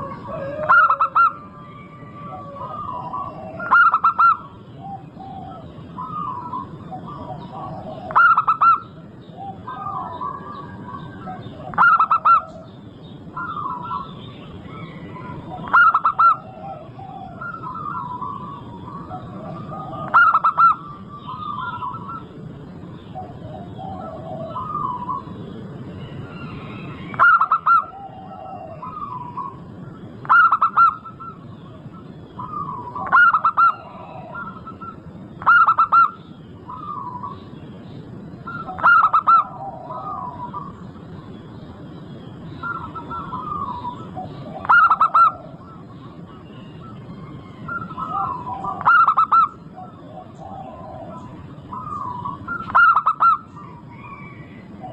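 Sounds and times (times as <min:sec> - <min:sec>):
doves cooing: 0:00.0 - 0:37.5, 0:38.4 - 0:41.8, 0:42.4 - 0:54.9
low background noise: 0:00.0 - 0:54.9.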